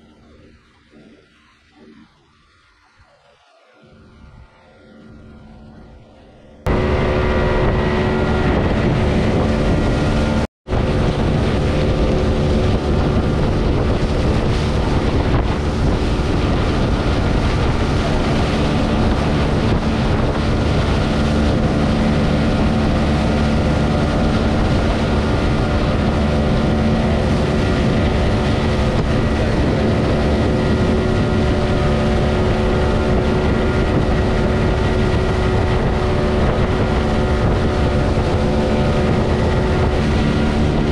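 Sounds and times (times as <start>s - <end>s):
motorboat engine running: 0.0s - 40.9s
wind buffeting microphone: 0.0s - 40.9s.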